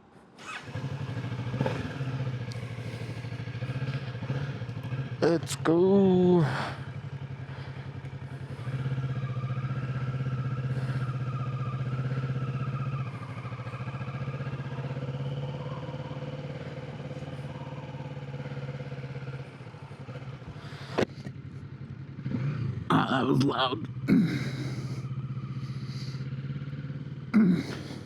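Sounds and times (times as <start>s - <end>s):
motorcycle engine running: 0.4s - 28.0s.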